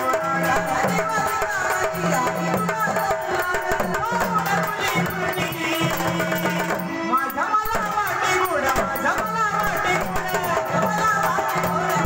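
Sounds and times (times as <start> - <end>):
hand drum percussion: 0.0 - 12.0
person singing: 0.0 - 12.0.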